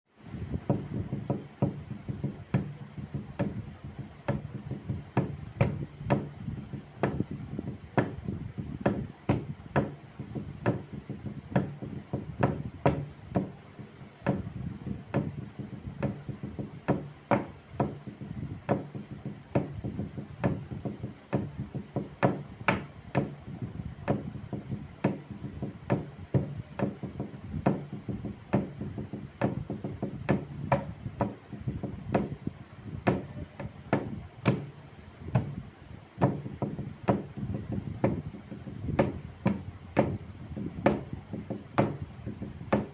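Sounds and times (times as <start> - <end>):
steady low hum: 0.1 - 42.9
wood knocks: 0.6 - 42.9.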